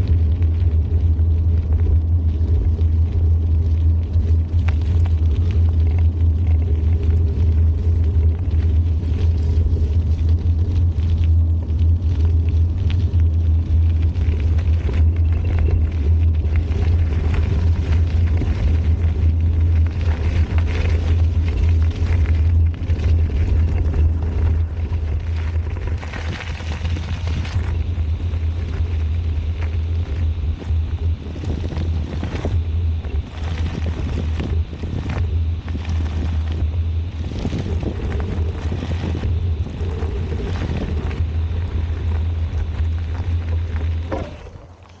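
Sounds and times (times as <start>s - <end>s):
bicycle rattles: 0.0s - 45.0s
tyre and trail noise: 0.0s - 45.0s
wind rumbling on microphone: 0.0s - 45.0s.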